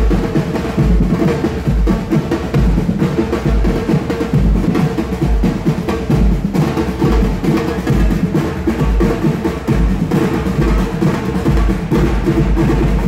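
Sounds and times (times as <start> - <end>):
bass drums pounding: 0.0 - 13.0
samba percussion ensemble: 0.0 - 13.0.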